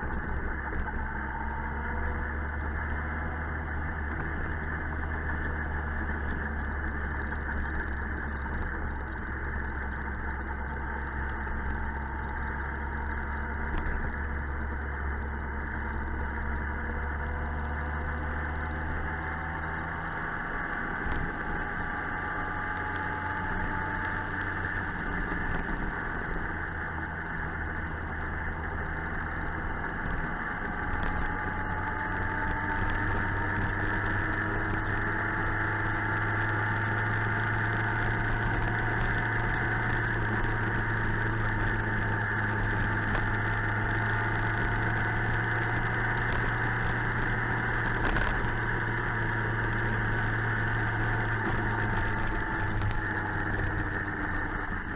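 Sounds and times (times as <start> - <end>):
motorcycle engine cruising: 0.0 - 54.9
road noise: 0.0 - 54.9.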